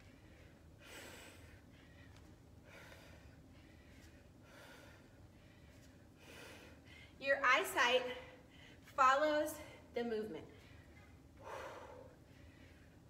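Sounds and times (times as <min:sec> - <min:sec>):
woman breathing heavily: 0:00.0 - 0:07.3, 0:08.1 - 0:09.0, 0:10.5 - 0:13.0.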